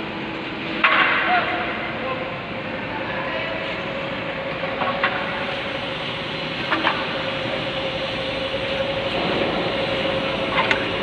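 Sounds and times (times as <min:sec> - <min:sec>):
machine running hum: 0:00.0 - 0:11.0.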